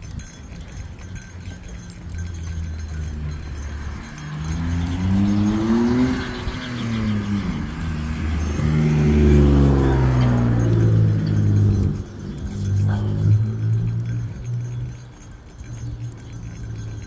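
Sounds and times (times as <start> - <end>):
vehicles passing by: 0.0 - 17.0.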